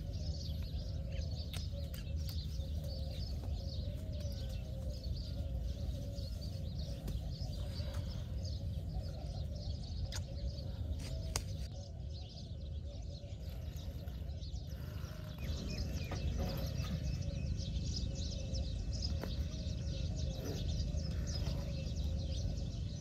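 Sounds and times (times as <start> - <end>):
small birds chirping: 0.0 - 23.0
steady low rumble: 0.0 - 23.0.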